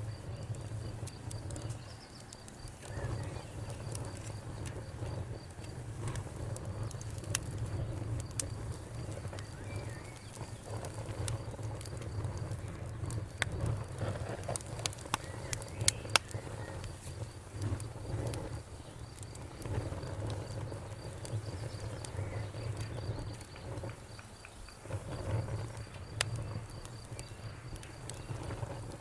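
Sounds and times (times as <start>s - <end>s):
crickets chirping: 0.0s - 29.0s
sharp pops: 0.0s - 29.0s
wood fire crackling: 0.0s - 29.0s.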